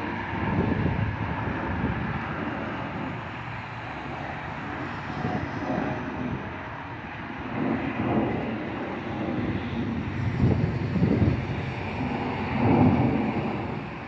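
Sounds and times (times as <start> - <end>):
jet passing overhead: 0.0 - 14.0.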